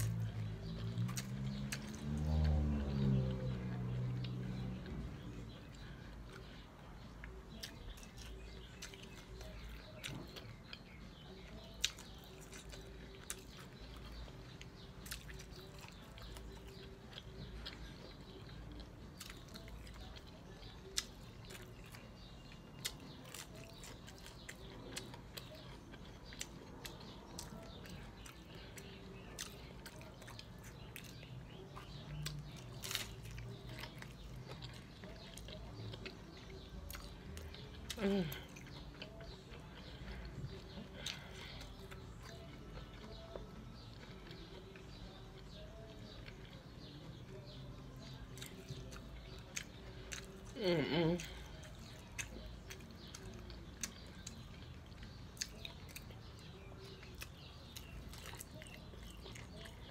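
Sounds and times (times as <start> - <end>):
chewing crunchy taco shells: 0.0 - 59.9.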